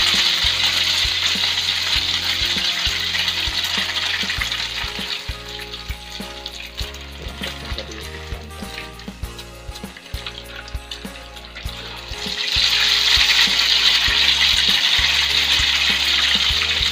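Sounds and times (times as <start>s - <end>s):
dough sizzling in hot oil: 0.0s - 16.9s.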